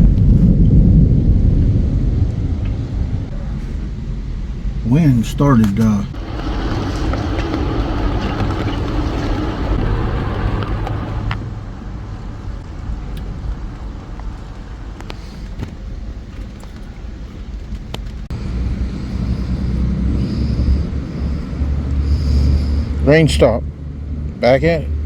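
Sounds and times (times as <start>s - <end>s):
wind buffeting microphone: 0.0s - 24.4s.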